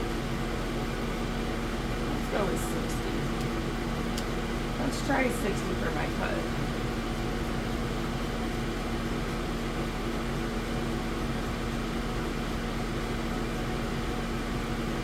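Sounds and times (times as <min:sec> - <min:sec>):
fans and pumps whirring: 0:00.0 - 0:15.0.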